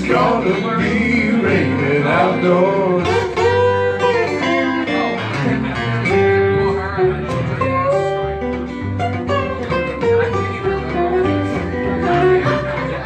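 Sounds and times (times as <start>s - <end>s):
plucked guitars playing blues: 0.0s - 13.0s
walking upright bass: 0.0s - 13.0s.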